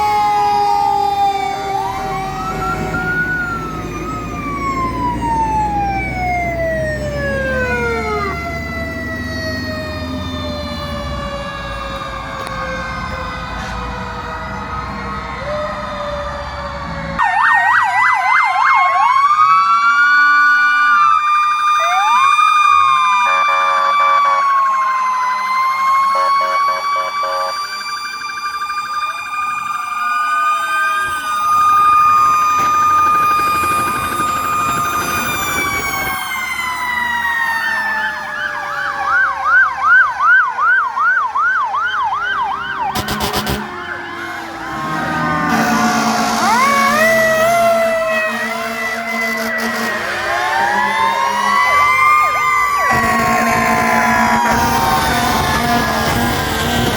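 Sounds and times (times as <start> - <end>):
fire engine sirens wailing: 0.0 - 56.9.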